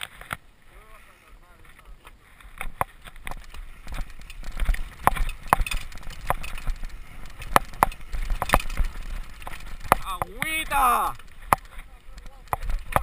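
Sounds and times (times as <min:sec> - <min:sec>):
bike knocking and rattling: 0:01.6 - 0:13.0.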